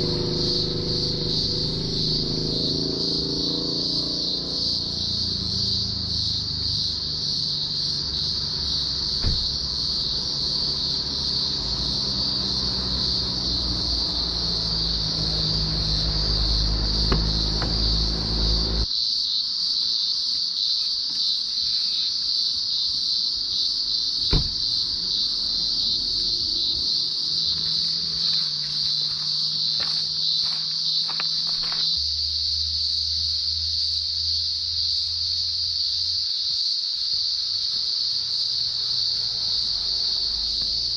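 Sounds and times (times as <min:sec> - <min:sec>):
cicadas droning: 0:00.0 - 0:40.9.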